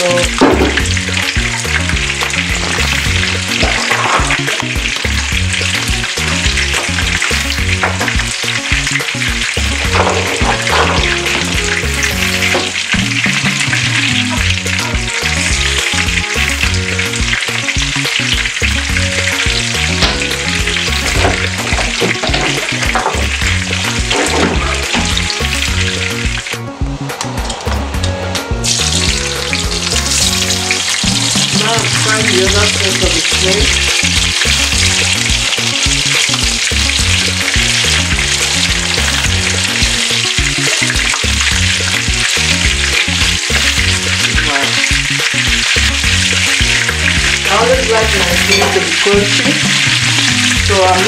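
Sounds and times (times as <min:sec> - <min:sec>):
snails frying in hot oil: 0:00.0 - 0:26.6, 0:28.6 - 0:51.0.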